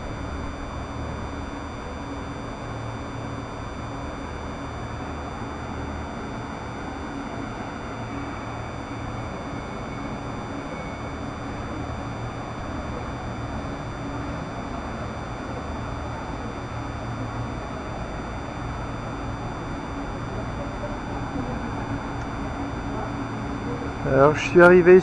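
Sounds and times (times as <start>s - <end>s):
boat engine drone: 0.0s - 25.0s
outdoor city noise: 0.0s - 25.0s.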